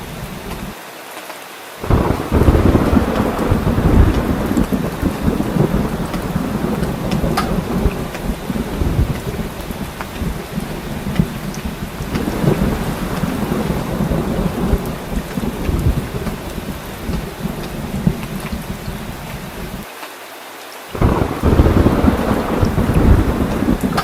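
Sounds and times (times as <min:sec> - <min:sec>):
heavy rain falling: 0:00.0 - 0:24.0
low rumble of thunder: 0:01.8 - 0:19.8, 0:21.0 - 0:24.0.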